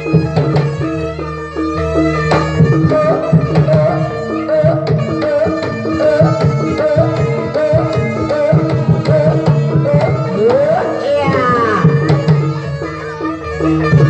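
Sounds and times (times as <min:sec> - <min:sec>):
hand drums beating: 0:00.0 - 0:01.2, 0:01.8 - 0:14.0.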